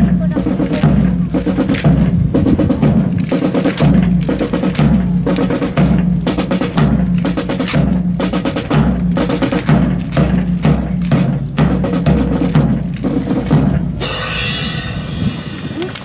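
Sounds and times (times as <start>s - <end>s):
snare drum cadence: 0.0s - 14.4s
bass drum beat: 0.0s - 16.0s
sharp clicks: 0.4s - 13.7s.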